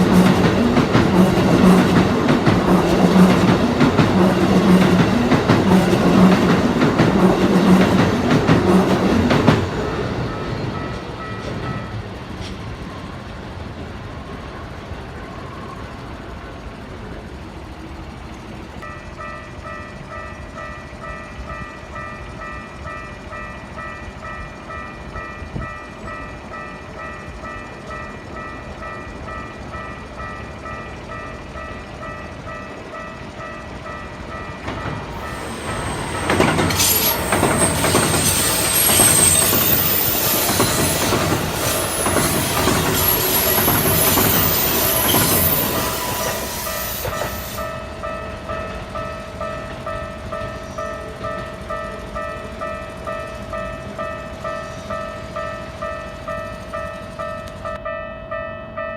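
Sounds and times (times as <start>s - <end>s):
high-pitched train whine: 0.0s - 58.9s
train passing on rails: 0.0s - 58.9s.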